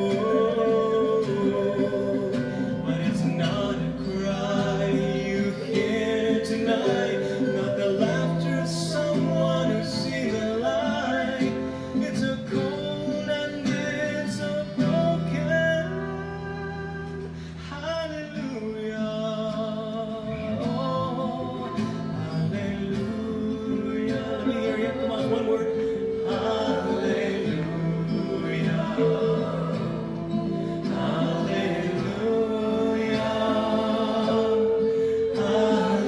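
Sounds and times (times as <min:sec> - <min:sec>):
acoustic guitar: 0:00.0 - 0:36.0
man singing a slow ballad: 0:00.0 - 0:36.0.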